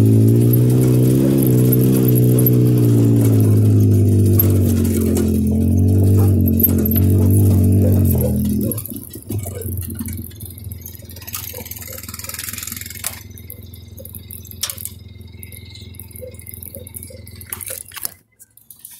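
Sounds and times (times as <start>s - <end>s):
vehicle engine idling: 0.0s - 18.9s.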